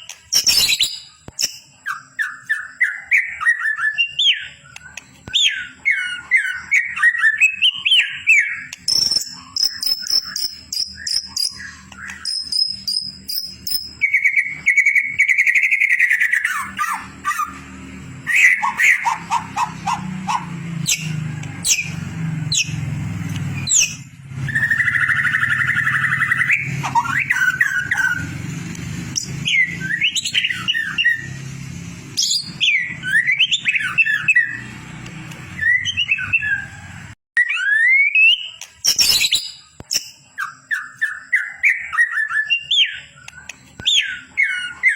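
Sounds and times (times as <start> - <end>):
songbird whistles and trills: 0.0 - 44.9.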